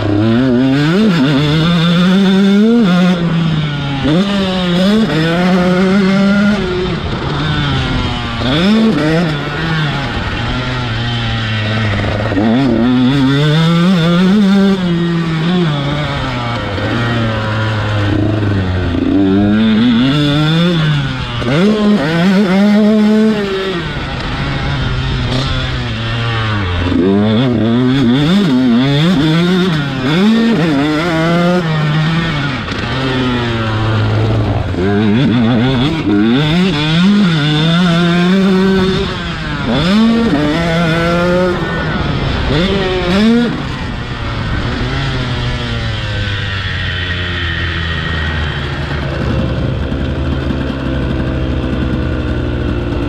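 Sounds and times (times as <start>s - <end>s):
motocross engine revving hard: 0.0s - 53.0s.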